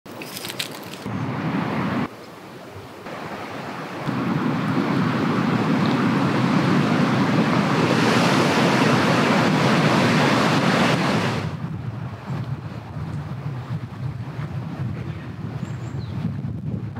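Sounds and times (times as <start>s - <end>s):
wind blowing: 0.1s - 16.9s.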